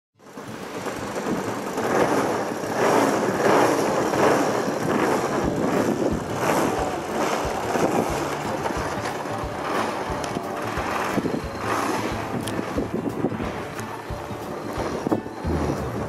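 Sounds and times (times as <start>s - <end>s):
model plane gas engine: 0.2s - 16.0s.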